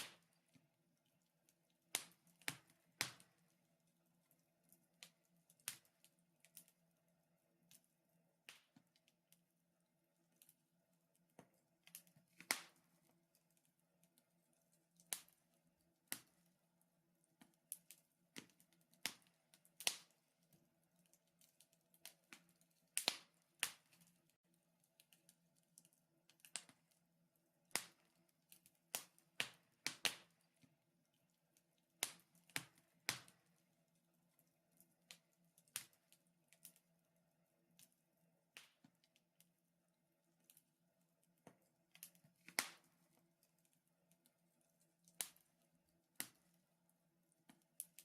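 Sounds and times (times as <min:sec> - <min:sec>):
wood fire crackling: 0:00.0 - 0:09.4, 0:10.2 - 0:39.5, 0:41.2 - 0:48.0.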